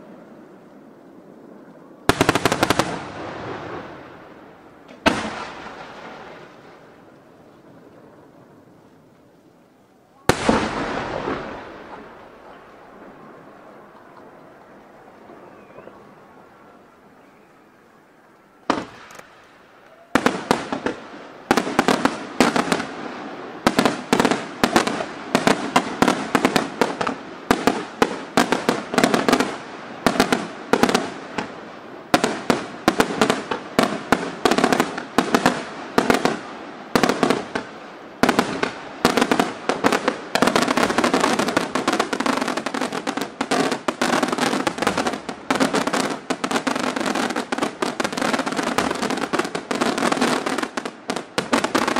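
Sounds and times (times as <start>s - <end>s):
fireworks exploding: 1.7s - 9.4s, 10.0s - 17.9s, 18.5s - 51.9s.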